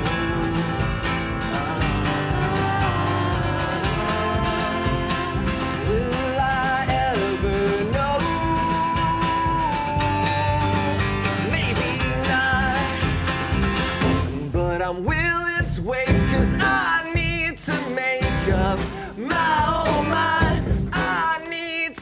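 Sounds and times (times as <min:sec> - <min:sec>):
rock band playing live: 0:00.0 - 0:21.6.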